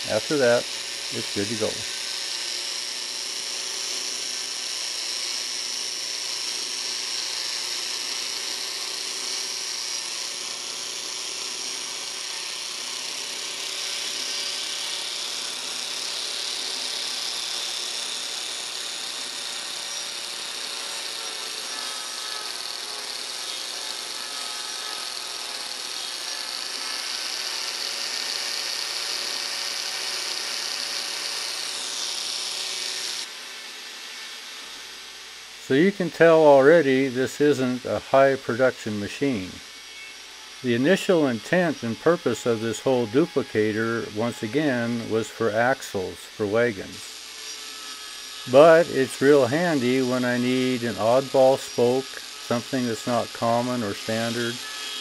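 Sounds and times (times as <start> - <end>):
angle grinder cutting wood: 0.0 - 55.0.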